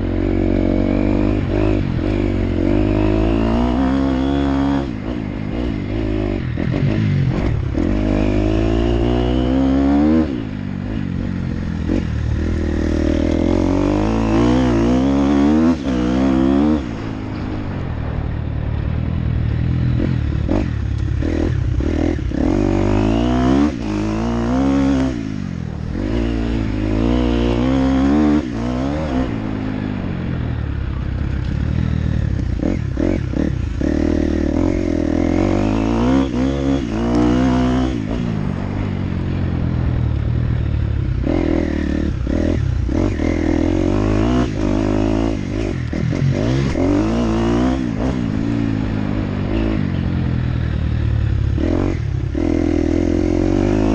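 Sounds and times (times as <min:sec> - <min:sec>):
dirt bike engine revving: 0:00.0 - 0:18.3, 0:19.5 - 0:53.9.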